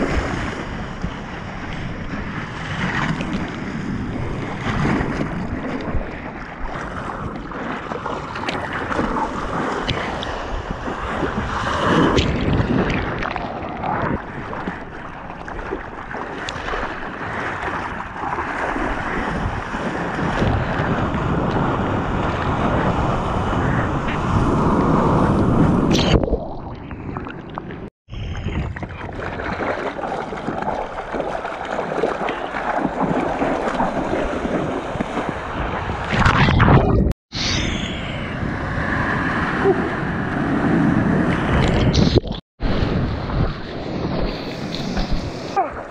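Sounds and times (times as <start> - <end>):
seawater splashing and sloshing: 0.0 - 37.1
wind on microphone: 0.0 - 45.9.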